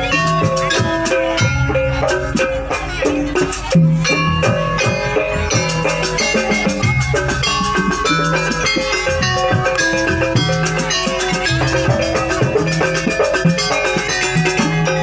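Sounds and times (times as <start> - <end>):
drum strokes: 0.0 - 15.0
metallophones ringing: 0.0 - 15.0.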